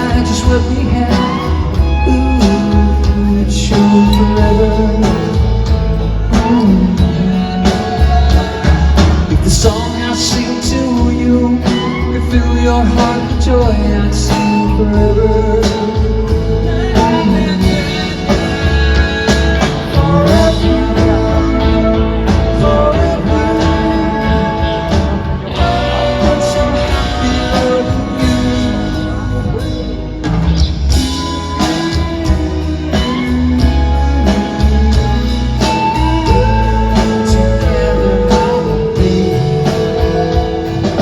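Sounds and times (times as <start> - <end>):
bass: 0.0 - 41.0
drums: 0.0 - 41.0
electric guitar: 0.0 - 41.0
vocal harmonies: 0.0 - 41.0.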